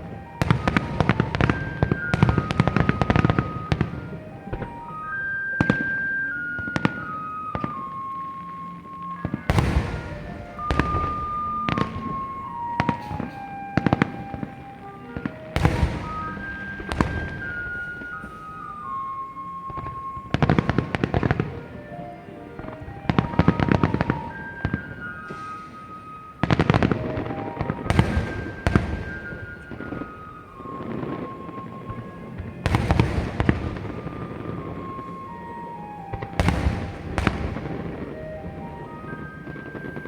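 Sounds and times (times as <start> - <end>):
fireworks bursting and crackling: 0.0 - 40.0
simple stepwise music melody: 0.0 - 40.0.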